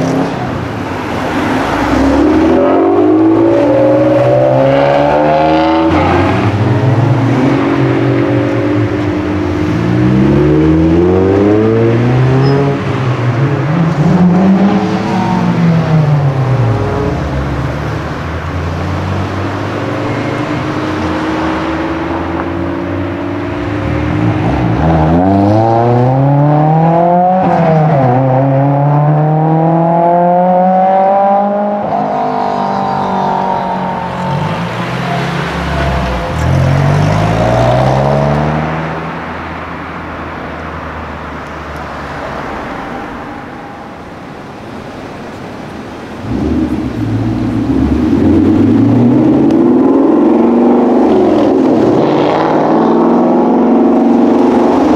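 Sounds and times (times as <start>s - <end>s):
cars accelerating: 0.0s - 54.9s.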